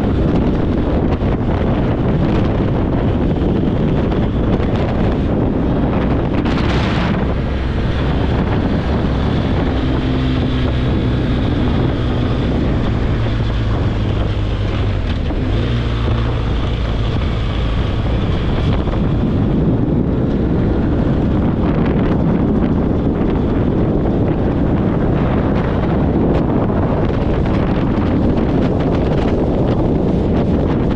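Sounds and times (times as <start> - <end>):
motorcycle engine drone: 0.0 - 30.9
wind buffeting microphone: 0.0 - 30.9.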